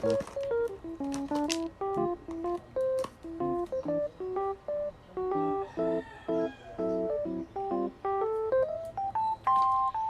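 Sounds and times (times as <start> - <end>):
light instrumental music: 0.0 - 10.0.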